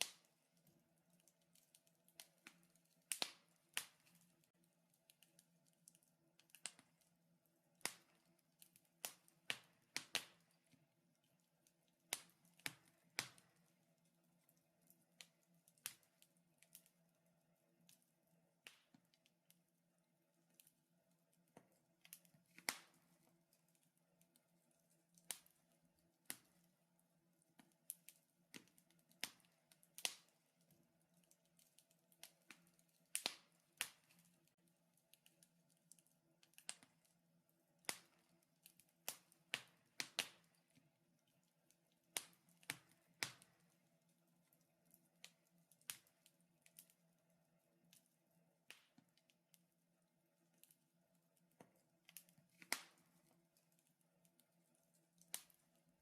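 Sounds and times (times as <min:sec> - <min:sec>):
wood fire crackling: 0:00.0 - 0:49.8, 0:50.4 - 0:56.0.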